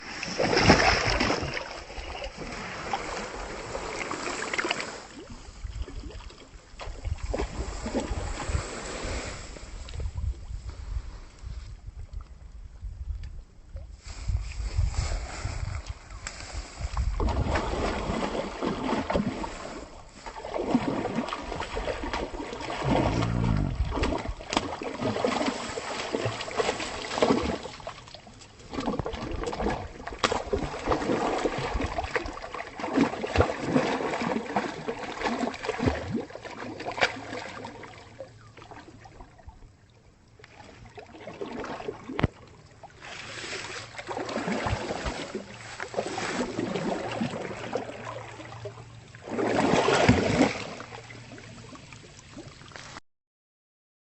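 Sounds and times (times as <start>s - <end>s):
wading through mud and water: 0.0s - 12.0s, 14.0s - 53.0s.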